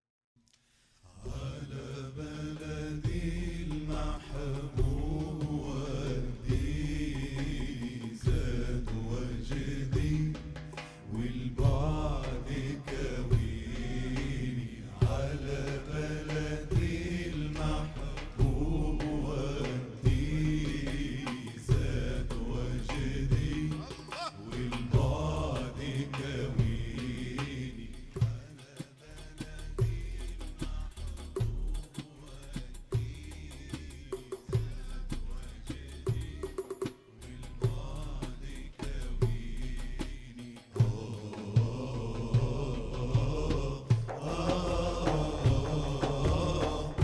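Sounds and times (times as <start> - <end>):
male chorus chanting religious song: 1.1 - 47.0
steady drum beat: 1.2 - 47.0.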